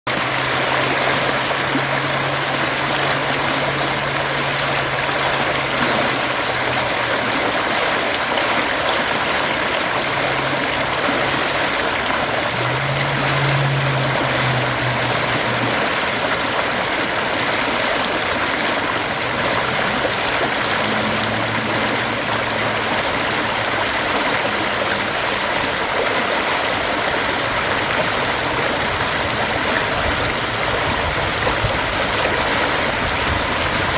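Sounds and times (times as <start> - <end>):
creek water flowing: 0.1 - 33.9.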